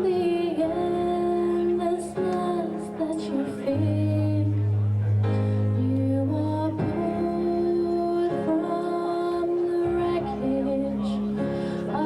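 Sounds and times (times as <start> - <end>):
slow ballad music: 0.0 - 12.0.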